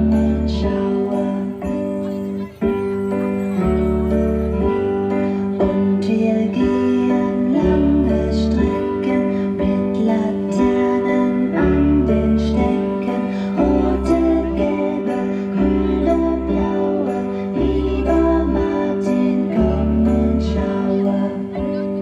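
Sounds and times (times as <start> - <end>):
song with melody over bass: 0.0 - 22.0.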